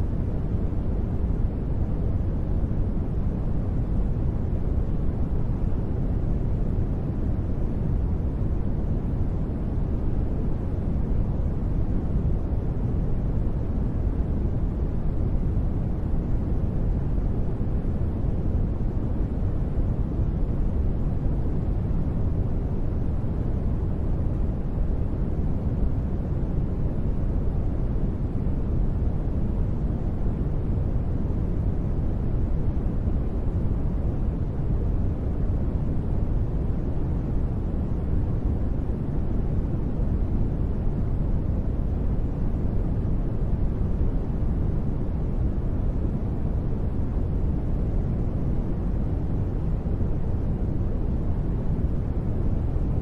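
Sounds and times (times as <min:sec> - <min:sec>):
deep white noise: 0:00.0 - 0:53.0.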